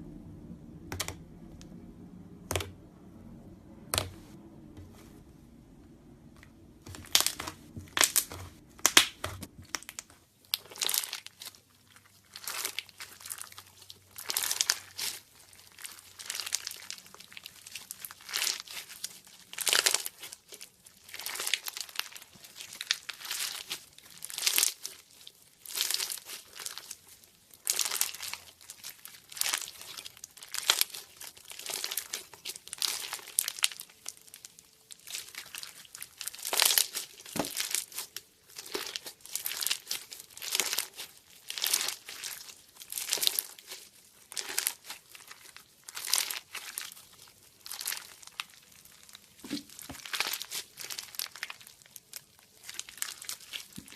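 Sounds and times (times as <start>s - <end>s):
slime squeezed and crackling: 6.9s - 53.9s.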